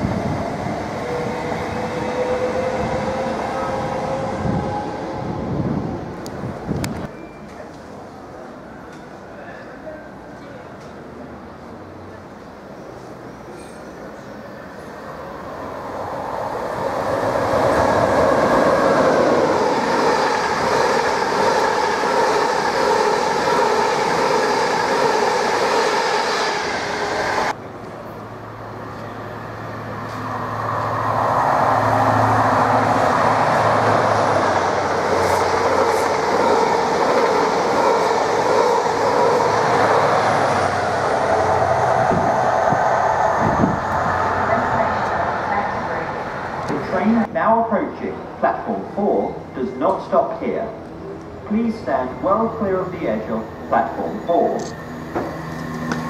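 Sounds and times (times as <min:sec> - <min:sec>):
train wheel and rail noise: 0:00.0 - 0:56.0.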